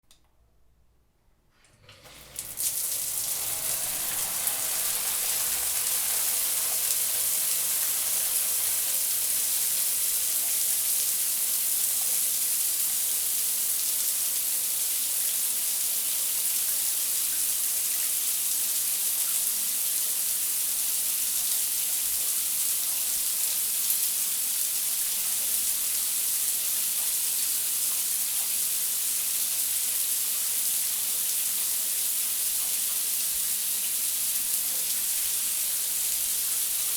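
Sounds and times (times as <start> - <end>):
shower water spraying: 1.9 - 19.4, 21.4 - 36.9.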